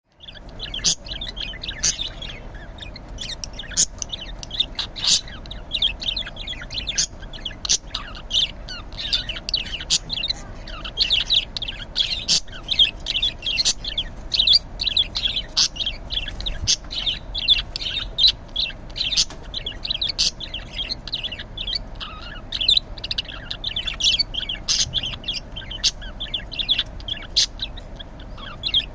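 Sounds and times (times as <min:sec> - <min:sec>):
budgerigar chattering: 0:00.2 - 0:28.9.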